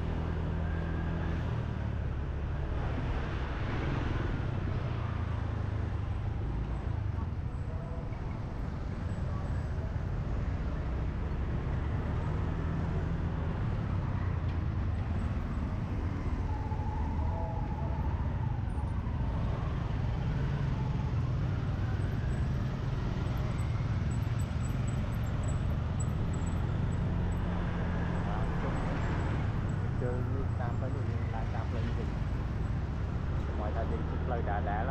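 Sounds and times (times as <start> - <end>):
motorbike engine and road rumble: 0.0 - 34.9
passing scooters and cars: 0.0 - 34.9.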